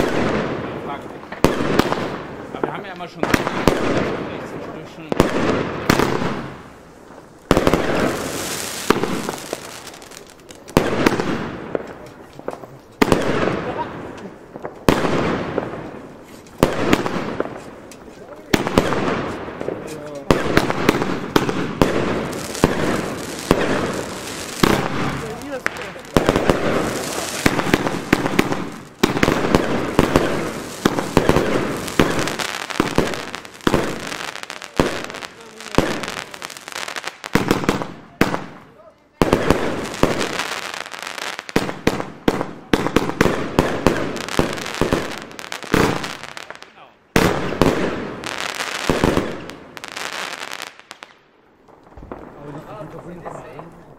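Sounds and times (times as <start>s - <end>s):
firework bangs with hiss: 0.0s - 53.9s.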